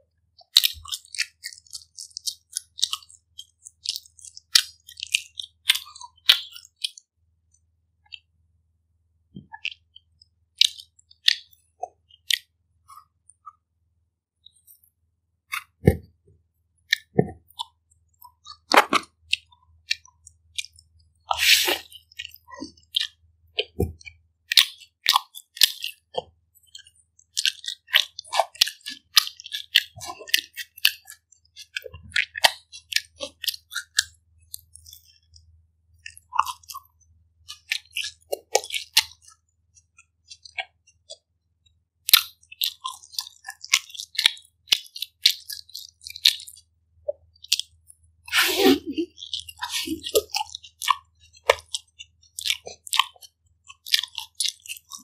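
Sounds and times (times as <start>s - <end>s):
chewing and biting pizza: 0.4s - 7.0s, 9.5s - 12.5s, 16.9s - 41.3s, 42.0s - 55.0s.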